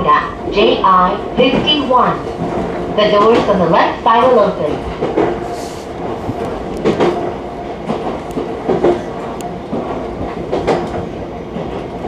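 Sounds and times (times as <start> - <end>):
train rumble: 0.0 - 12.0
train wheels clacking over rail joints: 1.5 - 12.0.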